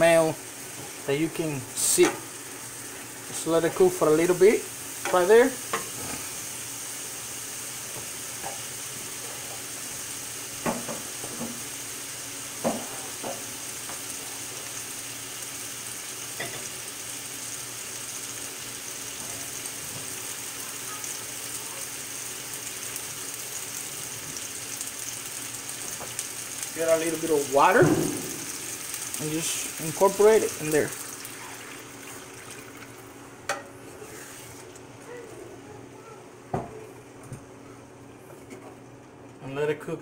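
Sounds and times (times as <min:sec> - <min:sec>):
sauce sizzling in a skillet: 0:00.0 - 0:34.8.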